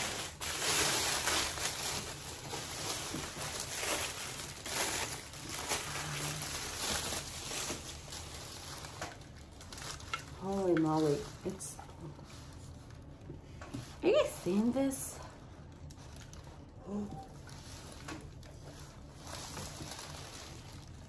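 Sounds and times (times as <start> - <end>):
packing wrap rustling and crinkling: 0.0 - 21.0.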